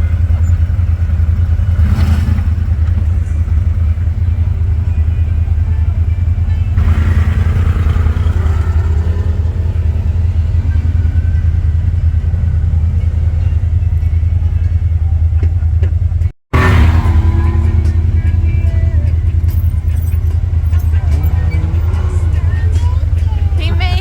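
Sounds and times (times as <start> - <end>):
atv engine rumbling: 0.0 - 24.0.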